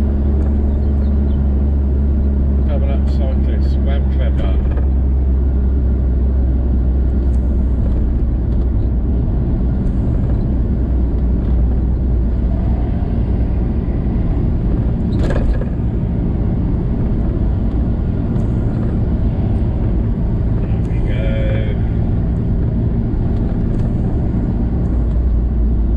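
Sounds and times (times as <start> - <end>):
engine and road rumble: 0.0 - 25.9.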